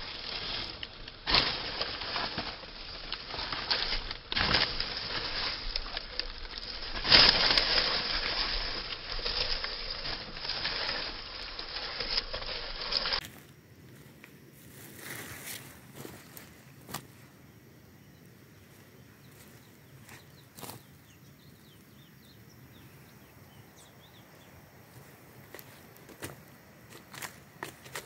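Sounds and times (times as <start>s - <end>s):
straw crunching: 0.0s - 17.4s, 18.7s - 21.8s, 23.8s - 28.0s.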